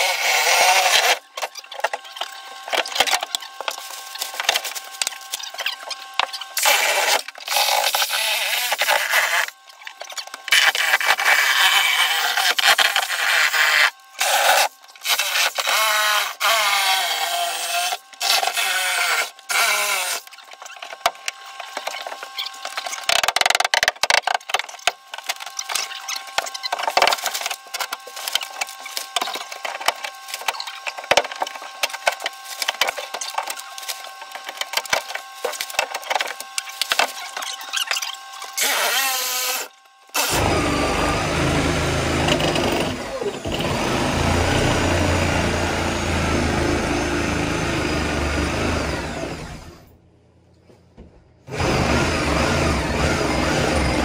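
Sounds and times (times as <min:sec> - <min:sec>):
panels creaking and squealing: 0:00.0 - 0:49.8.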